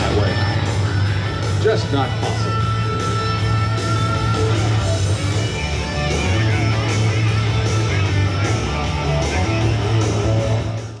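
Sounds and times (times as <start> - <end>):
loud rock music with guitar: 0.0 - 11.0.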